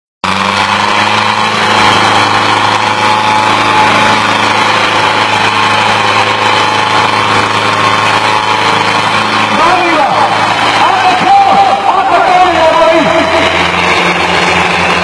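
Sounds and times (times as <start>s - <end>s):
diesel tractor engines under load: 0.2s - 15.0s.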